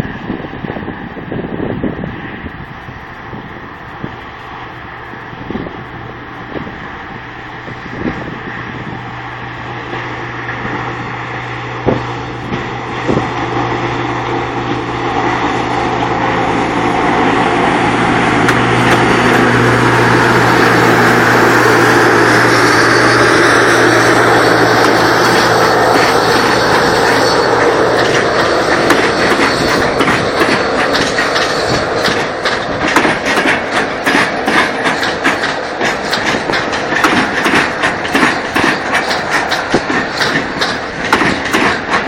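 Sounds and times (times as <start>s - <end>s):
train wagons rumbling over rails: 0.0s - 42.0s.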